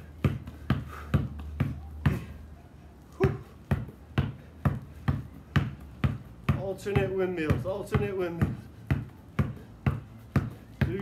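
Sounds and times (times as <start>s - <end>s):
basketballs bouncing on concrete: 0.0s - 2.6s, 3.2s - 11.0s.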